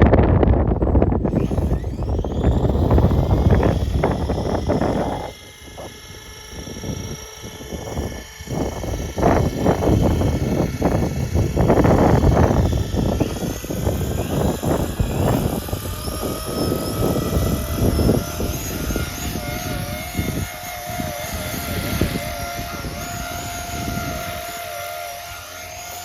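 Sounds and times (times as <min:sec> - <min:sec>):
rc helicopter motor whine: 0:00.0 - 0:26.0
wind buffeting microphone: 0:00.0 - 0:26.0.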